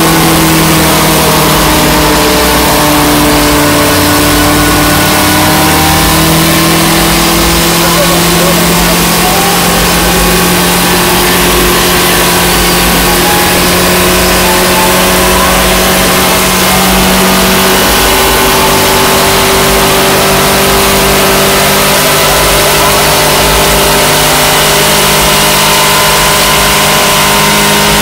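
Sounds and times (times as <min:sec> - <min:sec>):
car engine at high revs: 0:00.0 - 0:28.0.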